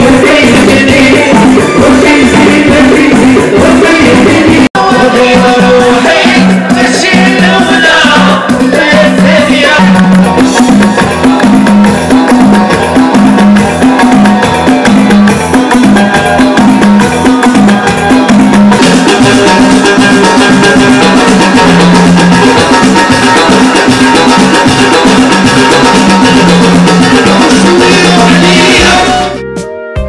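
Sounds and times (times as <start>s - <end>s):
repeating bass line: 0.0s - 29.6s
live band playing upbeat pop: 0.0s - 30.0s.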